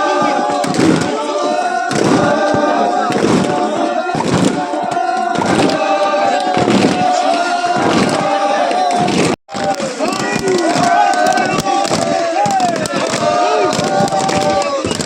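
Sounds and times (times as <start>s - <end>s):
group singing in chorus: 0.0s - 15.0s.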